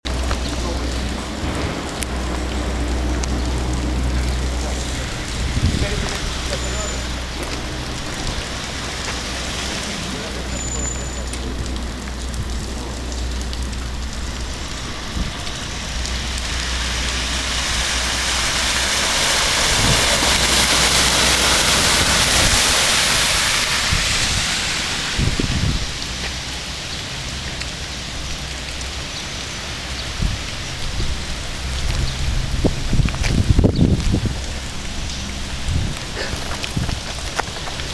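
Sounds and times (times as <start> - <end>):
rain falling: 0.0 - 37.9.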